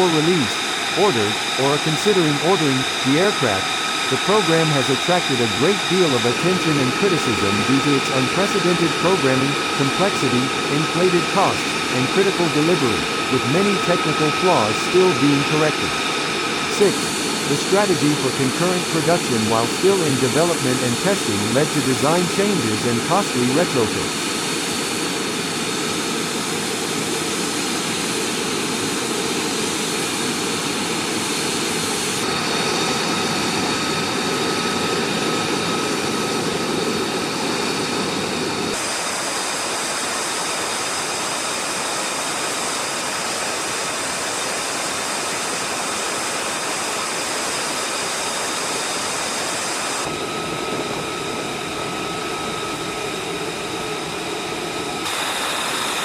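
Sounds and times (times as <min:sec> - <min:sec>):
jet engine rushing with whine: 0:00.0 - 0:56.0.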